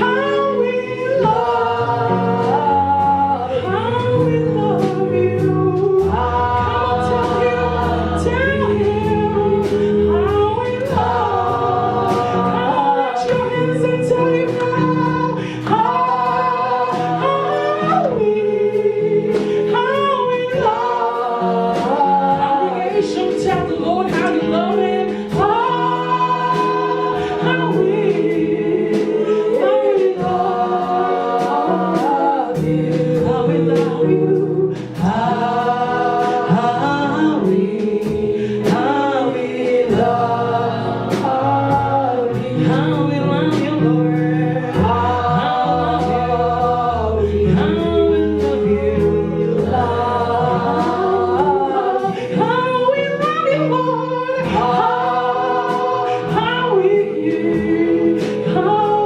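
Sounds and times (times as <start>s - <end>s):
choir and congregation singing: 0.0s - 59.0s.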